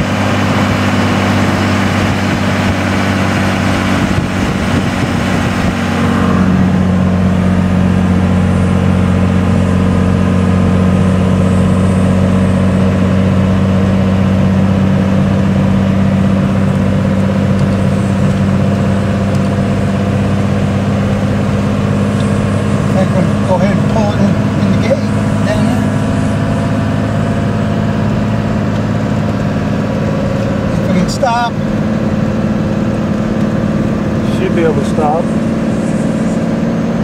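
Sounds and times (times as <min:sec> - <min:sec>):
diesel truck engine under load: 0:00.0 - 0:37.0.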